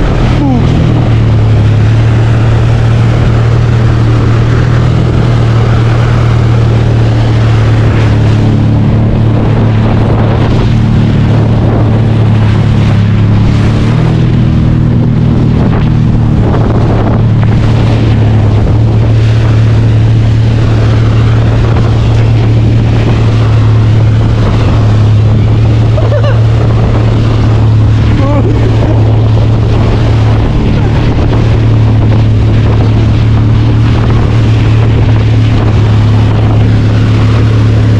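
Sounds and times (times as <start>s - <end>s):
jet ski engine drone: 0.0s - 37.9s
water spray rushing: 0.0s - 37.9s
wind buffeting microphone: 0.0s - 37.9s.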